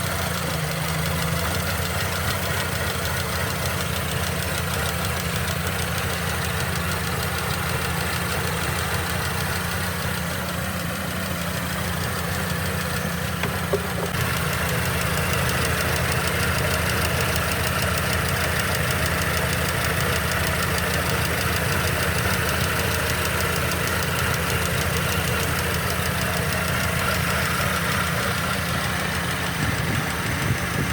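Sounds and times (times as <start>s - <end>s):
engine idling with ticking rattle: 0.0s - 30.9s.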